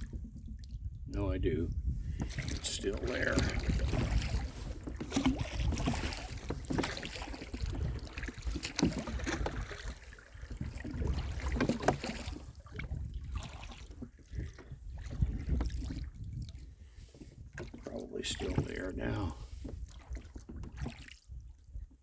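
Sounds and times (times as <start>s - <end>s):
water noise: 0.0s - 16.7s, 17.4s - 21.7s
wind buffeting microphone: 0.0s - 22.0s
small boat motoring: 2.0s - 21.1s.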